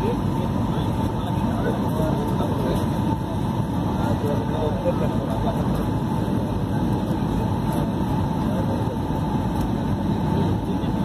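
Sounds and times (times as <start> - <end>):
airliner cabin engine noise: 0.0 - 11.0
faint constant hum: 0.0 - 11.0.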